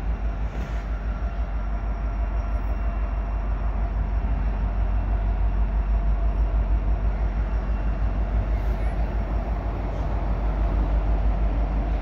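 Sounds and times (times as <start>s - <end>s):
locomotive engines rumbling: 0.0s - 12.0s.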